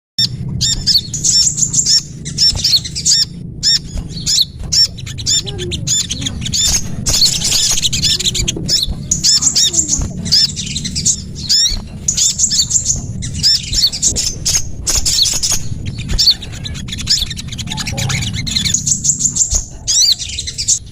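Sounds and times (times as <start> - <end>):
songbirds chirping: 0.2 - 20.9
steady low hum: 0.2 - 20.9.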